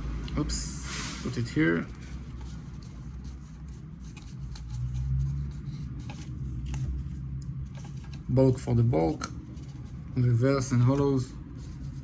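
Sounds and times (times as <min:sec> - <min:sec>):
low background hum: 0:00.0 - 0:12.0
cards rustling: 0:01.2 - 0:12.0.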